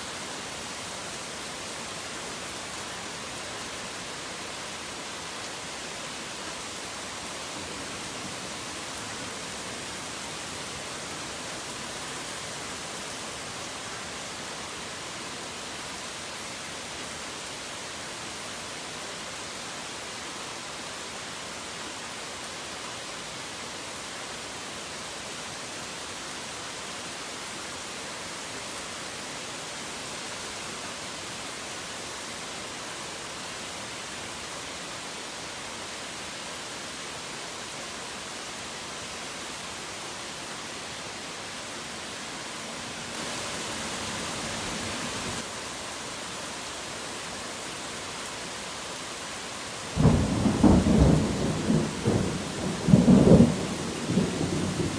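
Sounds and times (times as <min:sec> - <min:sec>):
heavy rain hissing: 0:00.0 - 0:54.9.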